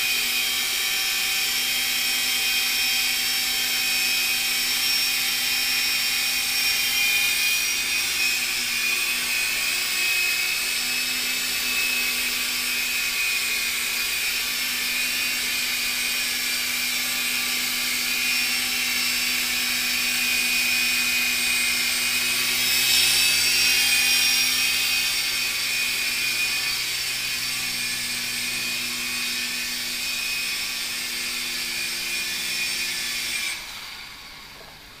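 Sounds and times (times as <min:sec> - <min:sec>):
small helicopter motors whining: 0:00.0 - 0:35.0.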